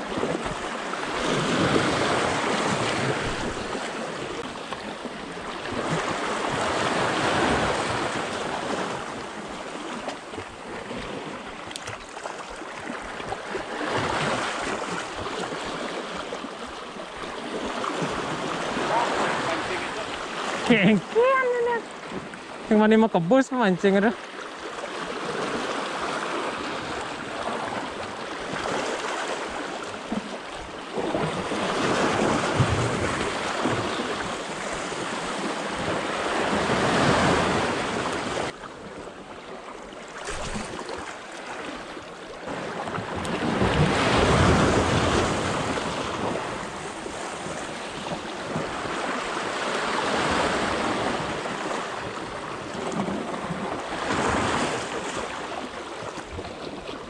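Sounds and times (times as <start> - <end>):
waves washing over rocks: 0.0 - 57.0.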